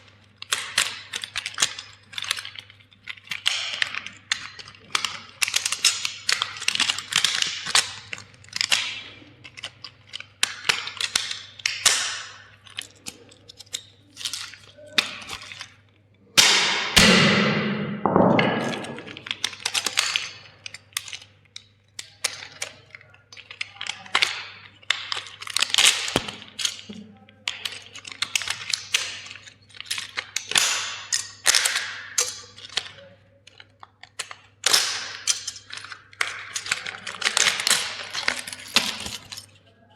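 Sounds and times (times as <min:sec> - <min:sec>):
plastic toys cracking and crunching: 0:00.0 - 0:17.4, 0:18.6 - 0:39.9.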